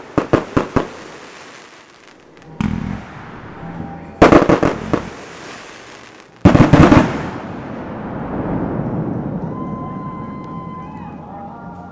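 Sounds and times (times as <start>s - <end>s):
fireworks bursting: 0.0s - 10.6s.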